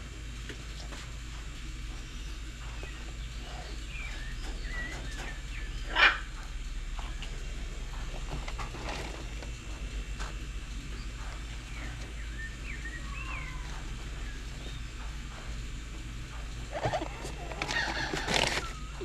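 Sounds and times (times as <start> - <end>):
steady low rumble: 0.0 - 19.0
birds chirping: 0.2 - 19.0.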